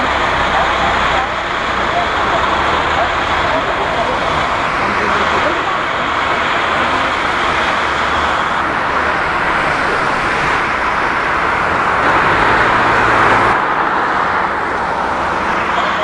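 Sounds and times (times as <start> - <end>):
distant jet engines hissing: 0.0 - 16.0.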